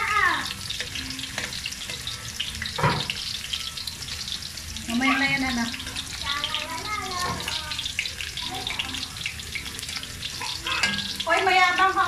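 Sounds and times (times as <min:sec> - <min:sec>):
carrots sizzling in oil: 0:00.0 - 0:12.0
metal spatula stirring: 0:00.4 - 0:12.0.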